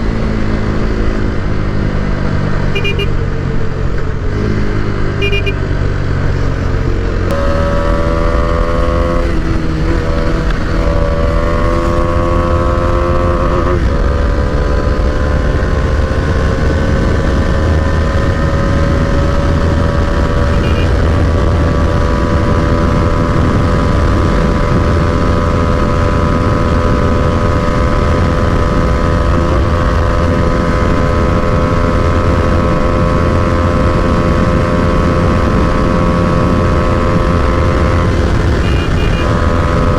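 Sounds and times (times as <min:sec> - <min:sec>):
motorcycle engine accelerating: 0:00.0 - 0:39.9
wind rumble: 0:00.0 - 0:39.9.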